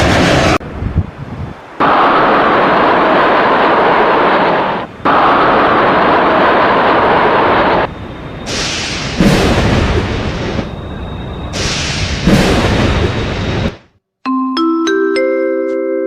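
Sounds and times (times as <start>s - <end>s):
airplane engine noise: 0.0s - 14.0s.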